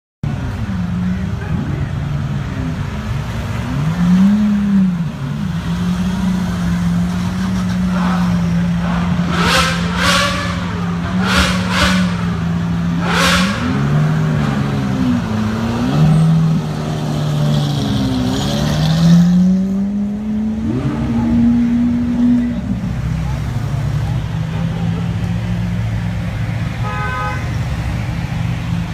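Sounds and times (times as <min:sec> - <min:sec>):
supercar engine revving: 0:02.2 - 0:26.7.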